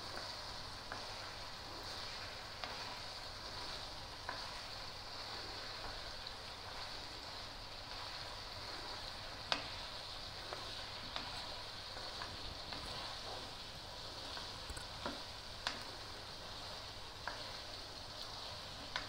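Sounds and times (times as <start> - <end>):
chicken sizzling in pan: 0.0 - 19.0.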